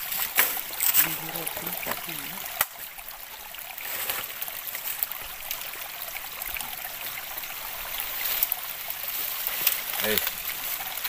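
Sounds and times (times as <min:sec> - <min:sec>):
faint ticks and crackles: 0:00.0 - 0:05.6, 0:06.5 - 0:11.0
stream water rushing: 0:00.0 - 0:11.0.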